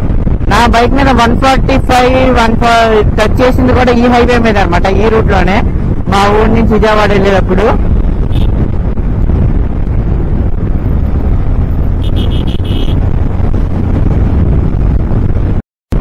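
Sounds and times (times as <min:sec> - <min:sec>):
motorcycle running: 0:00.0 - 0:16.0
road noise: 0:00.0 - 0:16.0
wind buffeting microphone: 0:00.0 - 0:16.0.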